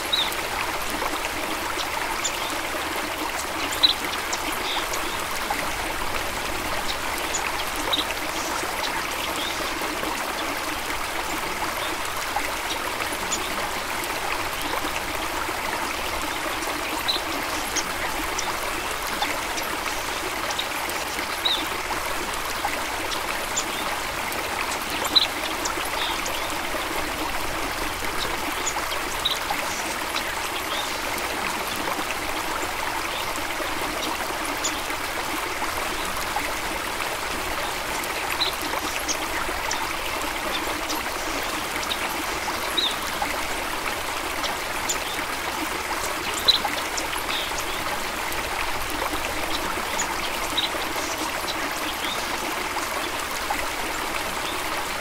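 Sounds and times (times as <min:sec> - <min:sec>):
stream of water rushing: 0:00.0 - 0:55.0.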